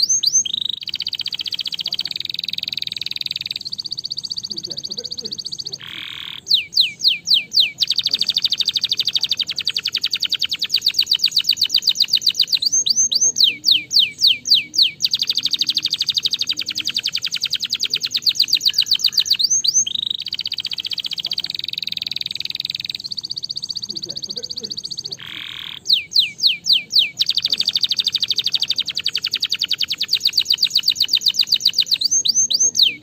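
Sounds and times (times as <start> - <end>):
canary singing trills and whistles: 0.0 - 33.0.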